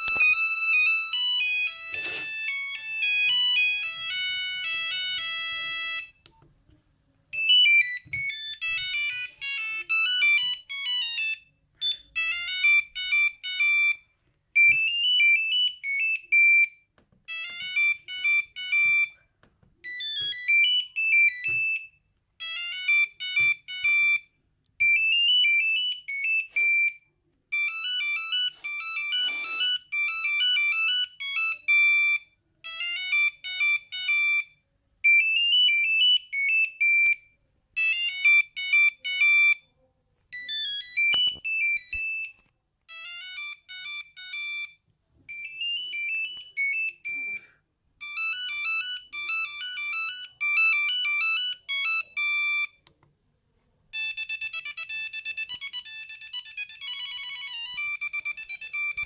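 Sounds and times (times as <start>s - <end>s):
monophonic ringtone beeps: 0.0s - 6.2s, 7.3s - 19.2s, 19.8s - 39.7s, 40.4s - 52.8s, 54.0s - 59.0s.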